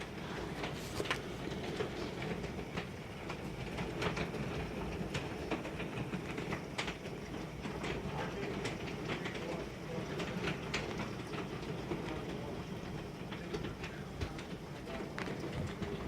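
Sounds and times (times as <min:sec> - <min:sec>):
hailstones striking hard surfaces: 0:00.0 - 0:16.0
steady hiss: 0:00.0 - 0:16.0.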